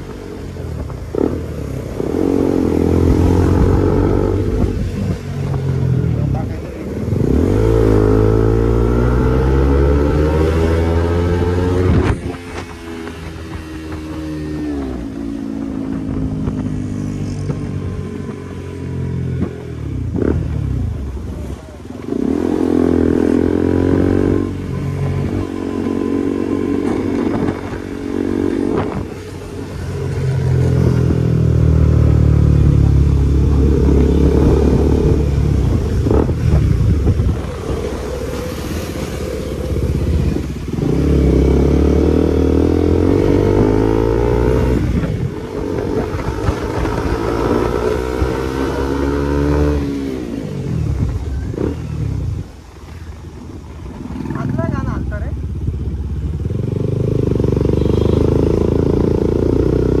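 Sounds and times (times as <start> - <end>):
motorcycle engine revving through gears: 0.0 - 53.0, 53.8 - 60.0.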